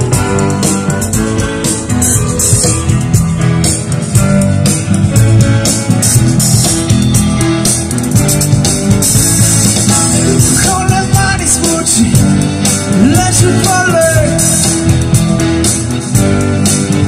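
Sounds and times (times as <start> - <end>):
electric guitars: 0.0 - 17.0
steady drum beat: 0.0 - 17.0.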